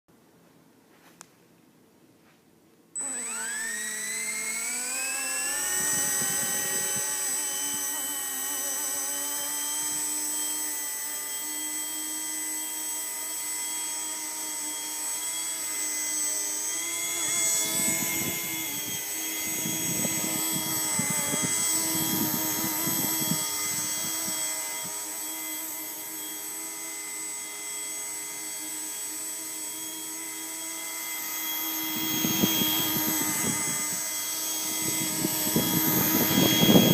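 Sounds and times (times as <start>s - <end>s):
rc helicopter rotors whining: 3.0s - 36.9s.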